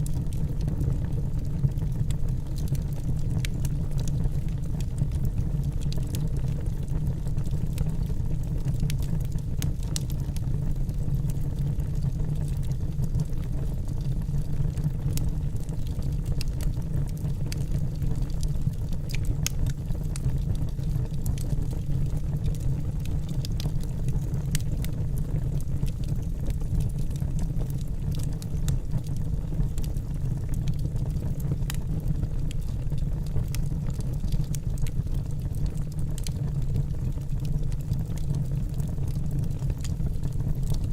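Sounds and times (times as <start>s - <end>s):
fire low rumble: 0.0s - 40.9s
logs crackling and popping: 0.0s - 40.9s.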